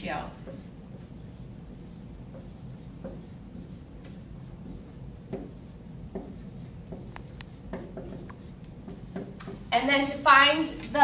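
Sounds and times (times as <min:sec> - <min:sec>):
marker writing on whiteboard: 0:00.3 - 0:10.2.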